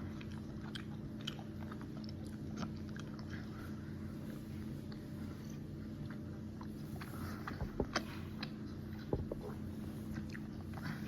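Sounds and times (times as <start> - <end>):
person chewing gummy candy: 0.0 - 3.8, 5.9 - 11.0
steady low hum: 0.0 - 11.0.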